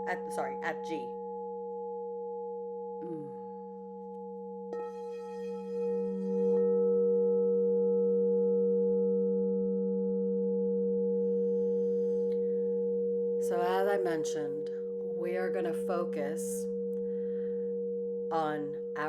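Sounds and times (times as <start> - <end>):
singing bowl struck: 0.0 - 13.4, 16.6 - 19.0
singing bowl ringing: 0.0 - 19.0.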